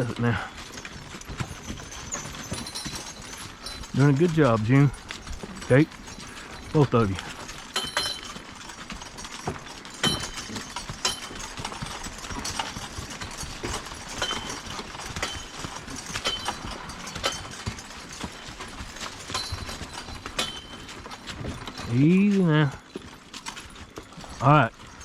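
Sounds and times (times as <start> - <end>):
mule hooves clopping: 0.0 - 25.0
sharp metallic clinks: 0.0 - 25.0
wagon clattering: 0.0 - 25.0.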